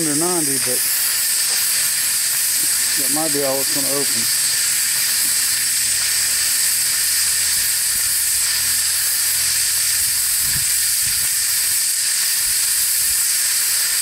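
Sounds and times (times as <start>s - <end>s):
safety valve hissing: 0.0s - 14.0s.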